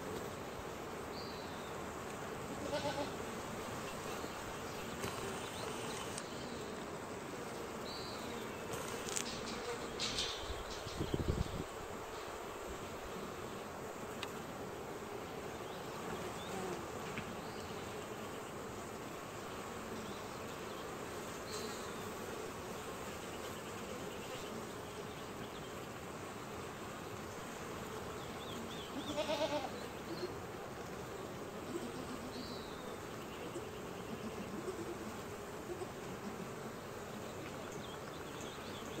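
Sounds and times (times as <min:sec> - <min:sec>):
honey bees buzzing: 0:00.0 - 0:39.0.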